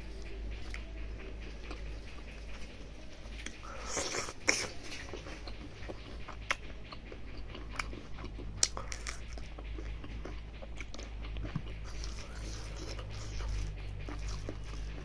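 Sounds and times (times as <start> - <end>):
chewing and wet mouth noises: 0.0 - 15.0.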